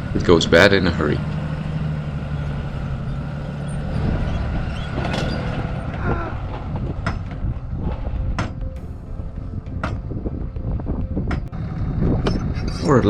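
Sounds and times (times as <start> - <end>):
pickup truck low rumble: 0.0 - 13.0
sharp knocks and rattles: 1.2 - 13.0.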